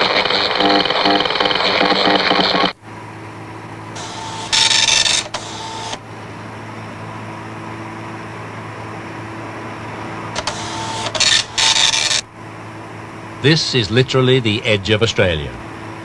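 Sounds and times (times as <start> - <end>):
light aircraft cabin drone: 0.0 - 16.0.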